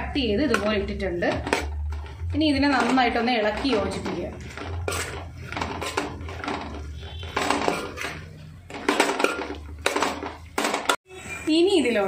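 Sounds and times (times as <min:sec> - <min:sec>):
metal spoon scraping metal pot: 0:00.2 - 0:11.0.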